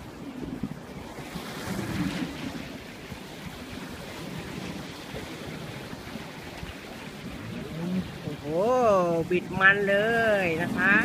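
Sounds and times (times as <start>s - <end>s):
sea waves washing: 0.0s - 11.0s
wind buffeting microphone: 0.0s - 11.0s.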